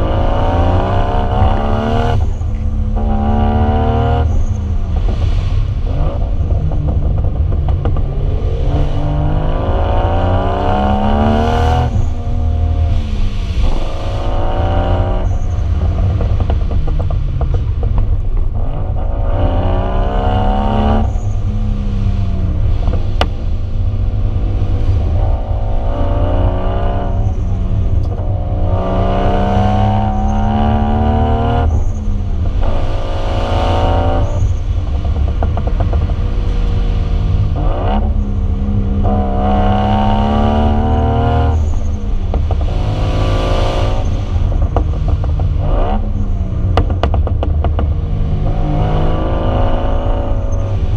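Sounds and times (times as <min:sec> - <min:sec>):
car engine accelerating: 0:00.0 - 0:50.9.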